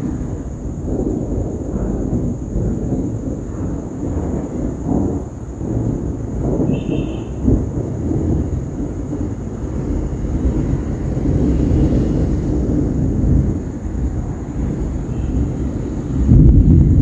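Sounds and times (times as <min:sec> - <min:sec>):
thunder rumbling: 0:00.0 - 0:17.0.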